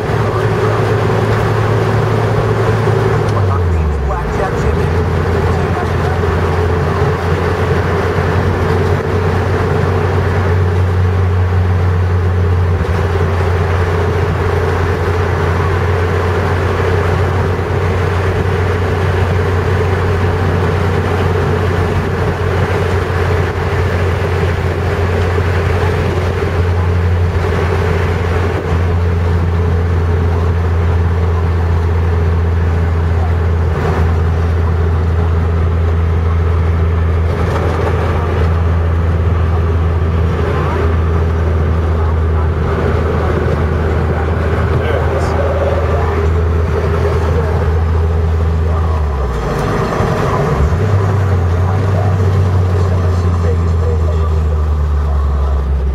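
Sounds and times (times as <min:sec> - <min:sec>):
car cabin engine hum: 0:00.0 - 0:55.9.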